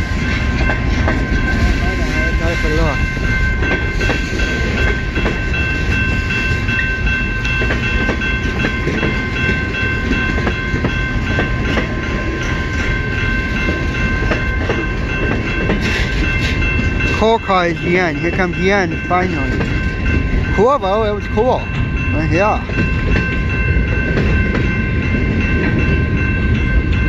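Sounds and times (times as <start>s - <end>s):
freight train rumbling: 0.0s - 27.0s.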